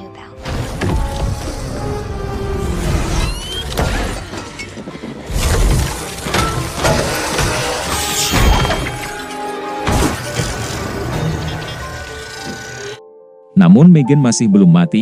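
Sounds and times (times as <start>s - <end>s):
tense film score: 0.0s - 14.4s.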